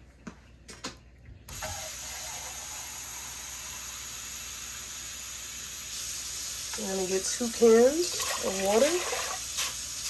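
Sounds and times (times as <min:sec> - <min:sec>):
faucet water running: 0:01.5 - 0:10.0.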